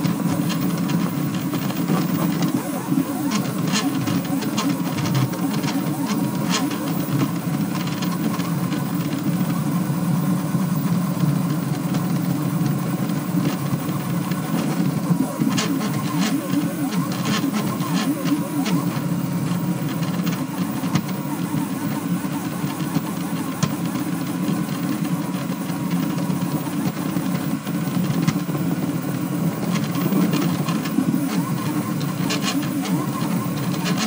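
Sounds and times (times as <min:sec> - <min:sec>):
fan whirring: 0:00.0 - 0:34.0
stepper motors humming and whining: 0:00.0 - 0:34.0.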